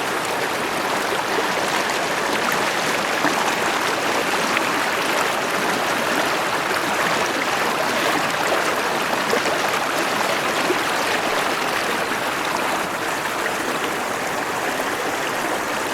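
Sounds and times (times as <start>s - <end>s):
stream flowing: 0.0s - 15.9s.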